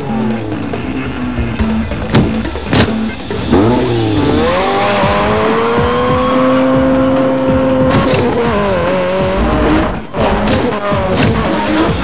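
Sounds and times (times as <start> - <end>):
rumble of other engines: 0.0 - 12.0
car engine revving hard: 2.3 - 12.0.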